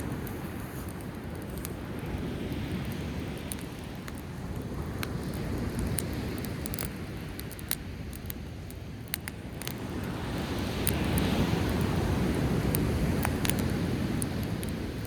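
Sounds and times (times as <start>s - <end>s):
breaking waves rumble: 0.0s - 15.0s
campfire crackling and popping: 0.0s - 15.0s.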